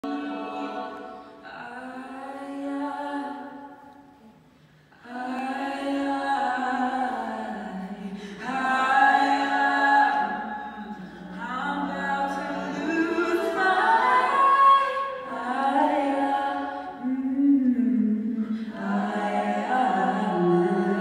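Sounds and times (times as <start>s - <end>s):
women singing chords in harmony: 0.0s - 21.0s.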